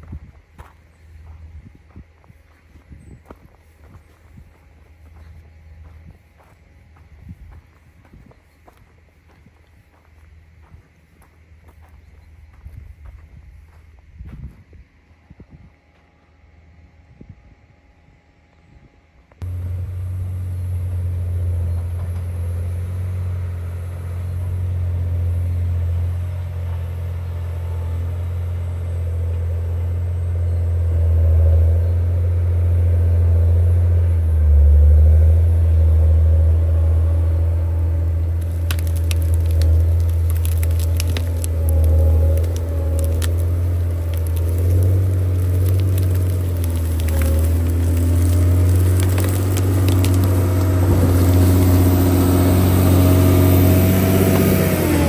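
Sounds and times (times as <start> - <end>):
gravel crackling under machine: 0.0 - 16.2, 19.3 - 55.0
diesel engine low rumble: 0.0 - 55.0.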